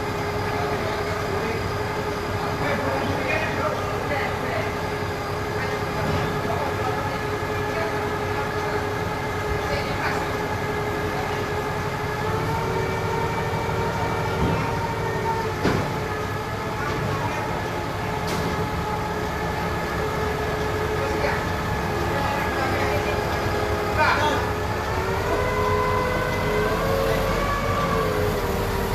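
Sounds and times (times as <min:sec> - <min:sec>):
forklift engine humming: 0:00.0 - 0:28.9.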